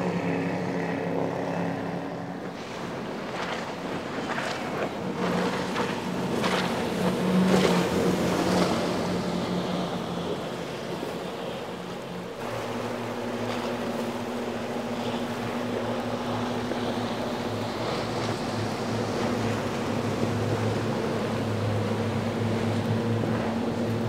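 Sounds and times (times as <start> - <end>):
outboard motors droning: 0.0 - 24.0.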